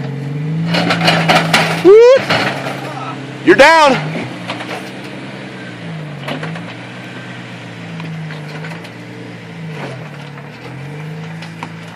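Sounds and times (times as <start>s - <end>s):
engine running at low revs: 0.0s - 11.9s.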